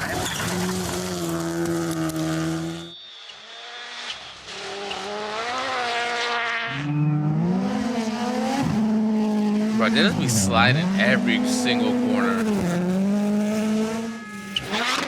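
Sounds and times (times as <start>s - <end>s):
rally car engines revving: 0.0s - 15.0s.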